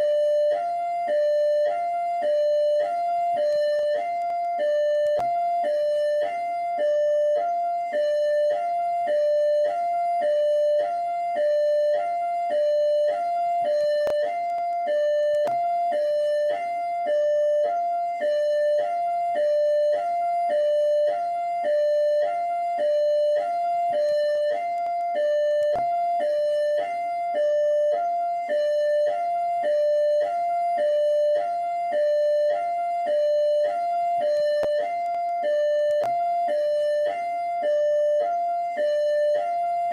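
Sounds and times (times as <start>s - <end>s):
hi-lo siren: 0.0s - 39.9s.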